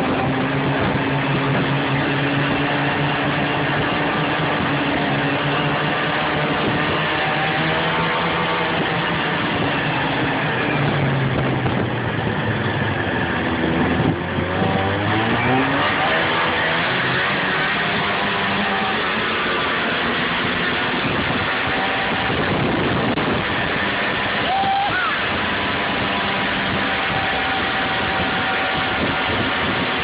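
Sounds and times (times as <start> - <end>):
hiss of track and wind: 0.0 - 30.0
snowmobile engine running: 0.0 - 30.0.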